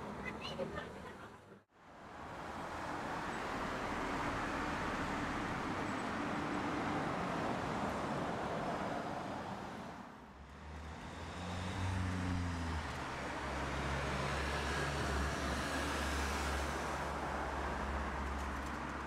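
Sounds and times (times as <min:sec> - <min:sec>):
passing cars: 0:00.0 - 0:19.0.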